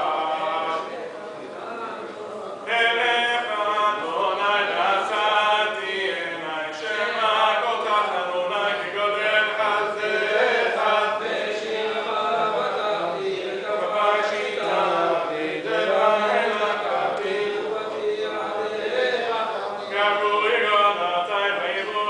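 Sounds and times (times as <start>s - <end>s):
men chanting prayers: 0.0s - 22.0s.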